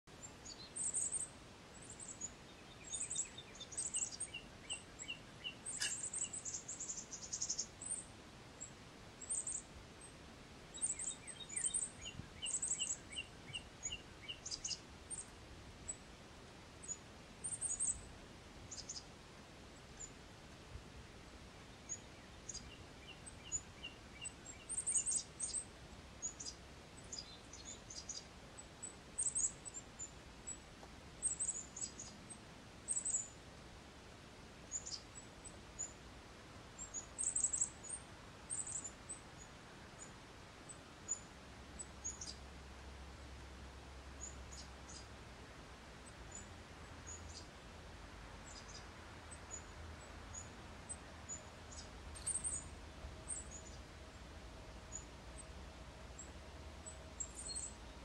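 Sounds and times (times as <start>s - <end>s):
small birds chirping: 0.0s - 20.7s, 21.5s - 33.5s, 34.6s - 43.4s, 44.2s - 55.5s, 56.1s - 58.0s
faint outdoor hiss: 0.0s - 58.0s
bird evenly spaced notes: 0.1s - 16.1s, 16.8s - 19.1s, 21.6s - 33.4s, 34.6s - 36.1s, 36.7s - 43.4s, 44.1s - 45.2s, 48.4s - 58.0s.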